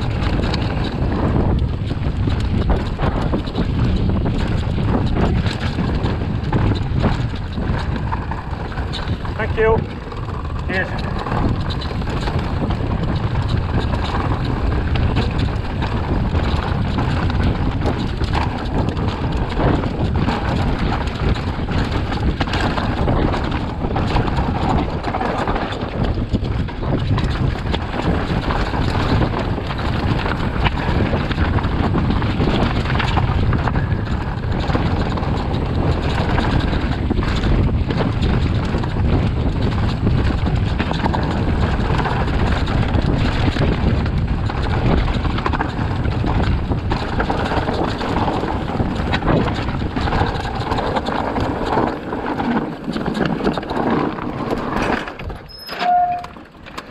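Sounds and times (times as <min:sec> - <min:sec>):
bike knocks and rattles: 0:00.0 - 0:56.9
wind rushing over microphone: 0:00.0 - 0:56.9.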